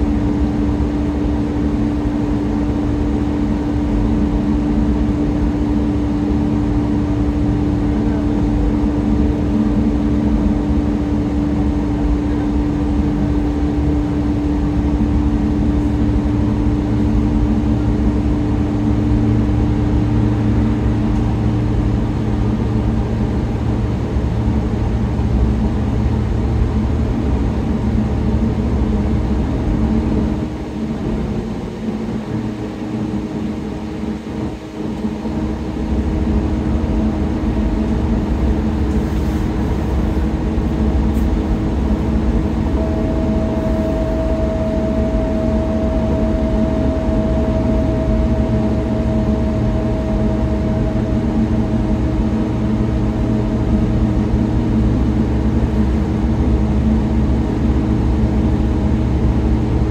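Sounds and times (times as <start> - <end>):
bus engine and road drone: 0.0 - 59.9
steady whine: 0.0 - 59.9.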